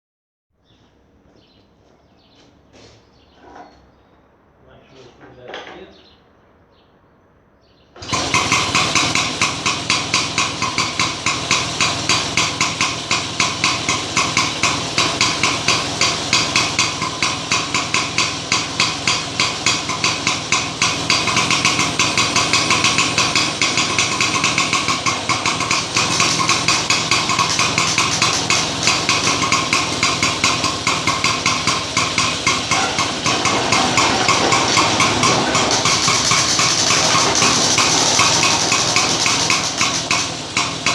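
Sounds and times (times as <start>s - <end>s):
lawn mower engine clattering: 8.0s - 40.9s.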